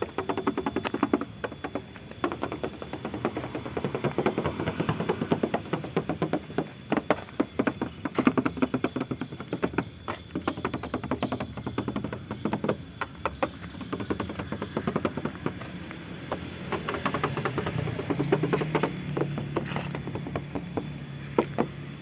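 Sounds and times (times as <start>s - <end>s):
knuckles tapping on car panels: 0.0s - 22.0s.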